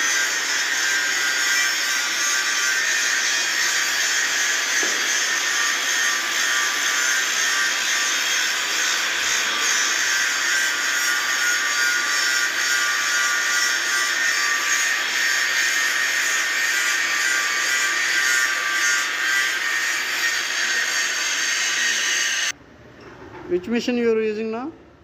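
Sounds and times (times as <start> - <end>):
angle grinder grinding steel: 0.0 - 22.6.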